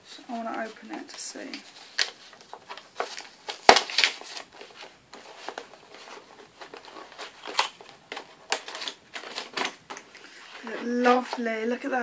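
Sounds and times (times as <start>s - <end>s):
packaging rustling and crinkling: 0.2s - 11.4s.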